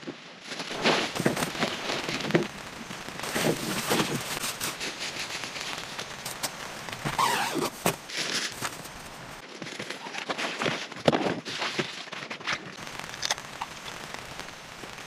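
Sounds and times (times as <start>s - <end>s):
tent fabric rustling and crinkling: 0.0s - 14.4s.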